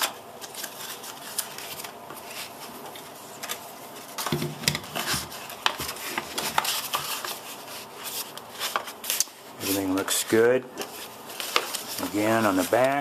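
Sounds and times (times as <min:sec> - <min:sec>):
cardstock rustling and rubbing: 0:00.0 - 0:13.0.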